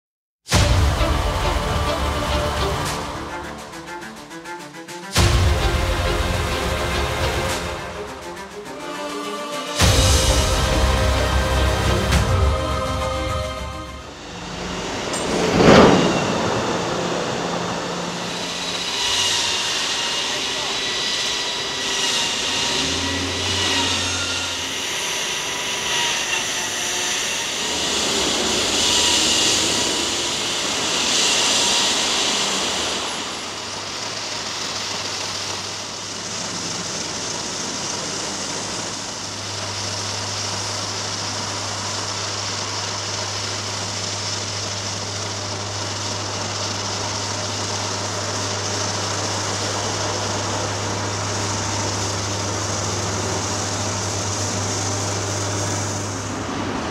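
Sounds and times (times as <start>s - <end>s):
construction machinery diesel engines: 0.5s - 4.4s, 5.1s - 56.9s.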